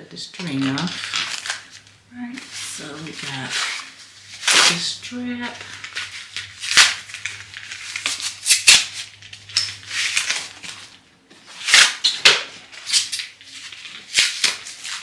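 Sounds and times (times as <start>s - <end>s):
packaging rustling and crinkling: 0.3s - 15.0s.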